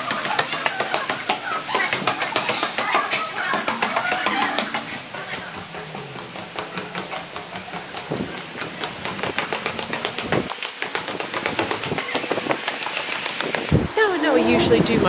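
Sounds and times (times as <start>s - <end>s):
footsteps walking briskly: 0.0s - 13.8s.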